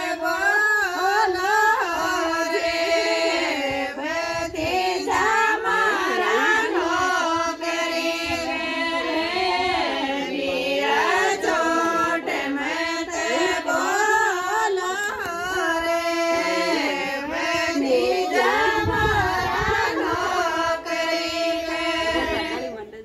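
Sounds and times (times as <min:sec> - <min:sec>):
high voice singing folk song: 0:00.0 - 0:22.8.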